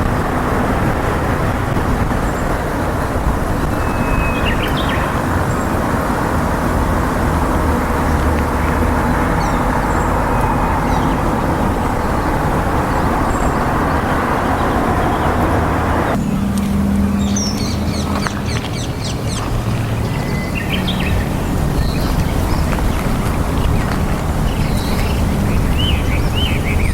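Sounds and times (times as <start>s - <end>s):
small birds chirping: 0.0s - 26.9s
steady rushing noise: 0.0s - 26.9s.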